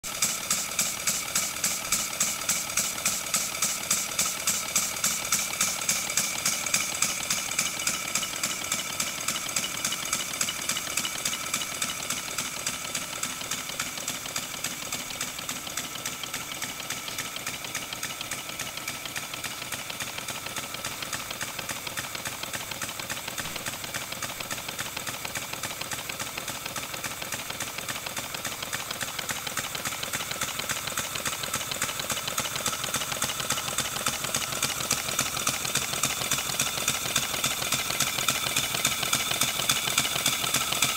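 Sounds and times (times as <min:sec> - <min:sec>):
model steam engine exhaust beats: 0:00.0 - 0:40.9.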